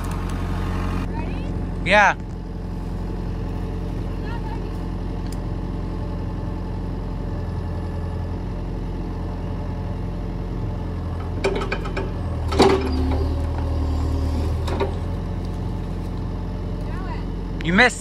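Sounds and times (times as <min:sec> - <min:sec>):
excavator diesel engine: 0:00.0 - 0:18.0.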